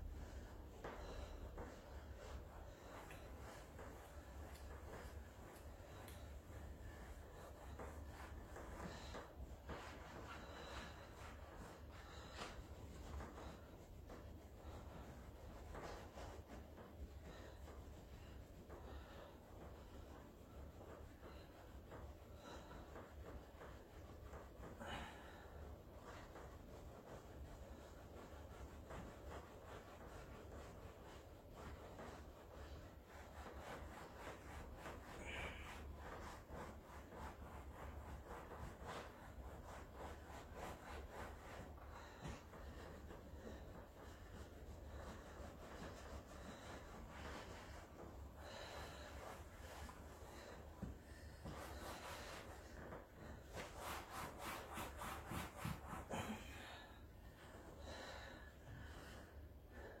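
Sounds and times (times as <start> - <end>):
faint rubbing strokes: 0.0 - 60.0.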